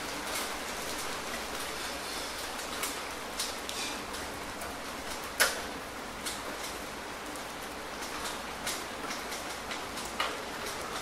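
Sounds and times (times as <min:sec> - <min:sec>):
close raindrops striking: 0:00.0 - 0:11.0
steady rain hiss: 0:00.0 - 0:11.0.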